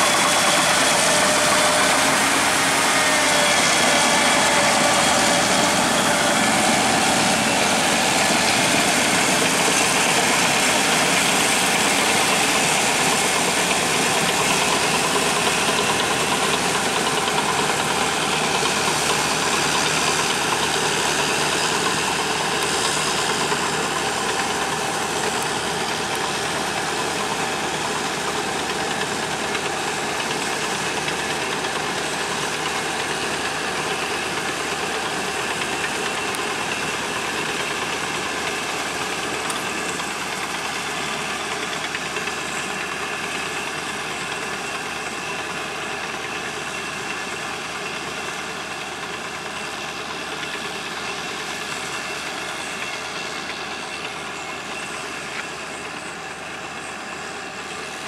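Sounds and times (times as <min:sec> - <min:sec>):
crawler tractor engine running: 0:00.0 - 0:58.0.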